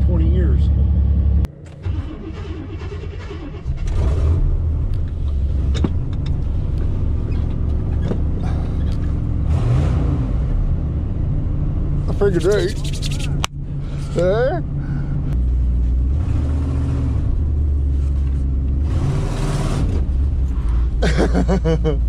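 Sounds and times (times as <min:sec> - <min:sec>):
pickup engine running: 0:00.0 - 0:09.6, 0:10.5 - 0:22.0.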